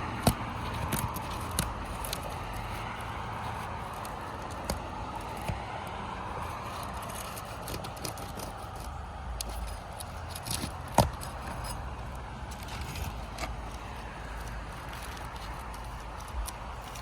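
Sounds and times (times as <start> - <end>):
bar scraping shingles: 0.0 - 17.0.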